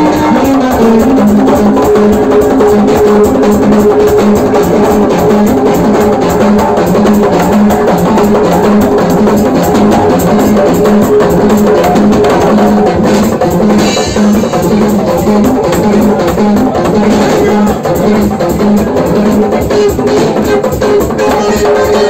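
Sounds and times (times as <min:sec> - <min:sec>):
fast hand drumming: 0:00.0 - 0:22.0
live band music: 0:00.0 - 0:22.0.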